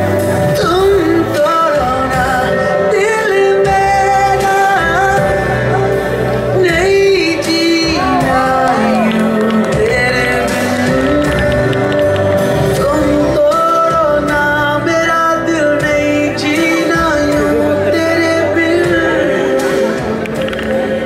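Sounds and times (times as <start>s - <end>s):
music with singing voice: 0.0s - 21.0s.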